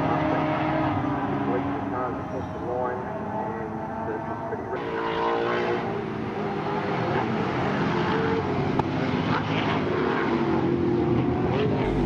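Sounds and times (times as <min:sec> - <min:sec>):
race car engines passing at high revs: 0:00.0 - 0:12.0.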